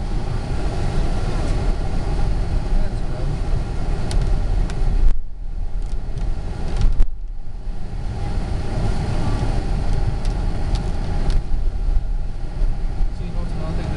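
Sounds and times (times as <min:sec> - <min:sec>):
storm wind buffeting microphone: 0:00.0 - 0:13.9.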